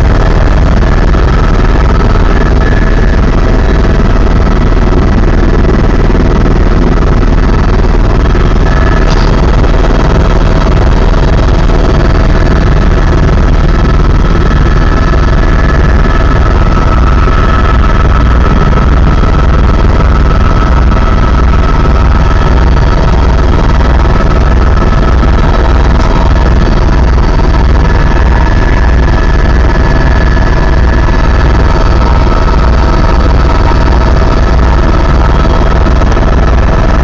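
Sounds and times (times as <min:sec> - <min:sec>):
helicopter deep drone: 0:00.0 - 0:37.0
high whine: 0:00.0 - 0:37.0.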